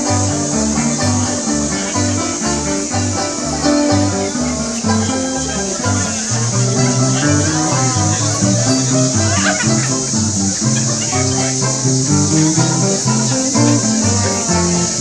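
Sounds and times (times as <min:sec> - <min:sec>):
low bass notes: 0:00.0 - 0:15.0
string band with banjos and guitar: 0:00.0 - 0:15.0.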